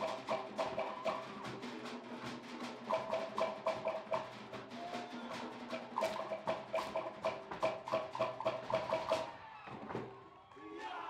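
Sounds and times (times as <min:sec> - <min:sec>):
wooden slit drum strikes: 0:00.0 - 0:09.3.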